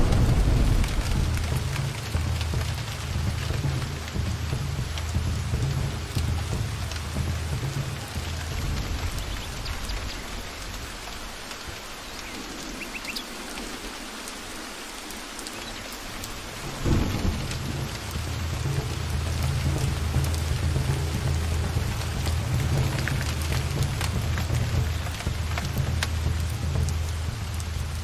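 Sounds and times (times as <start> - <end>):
thunder clap: 0.0 - 11.4, 16.3 - 28.0
thunder rumbling: 0.0 - 13.9, 16.0 - 28.0
rain falling on foliage: 0.0 - 28.0.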